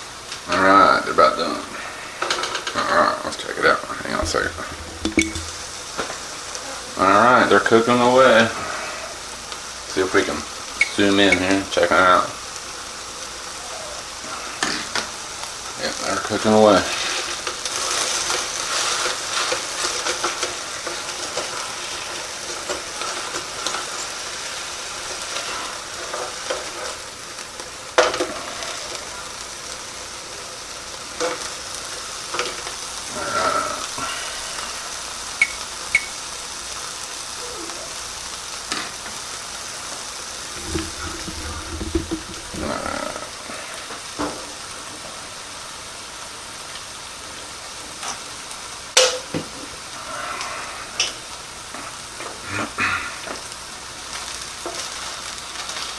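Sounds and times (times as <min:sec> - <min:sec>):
burger patties sizzling in a pan: 0:00.0 - 0:55.9.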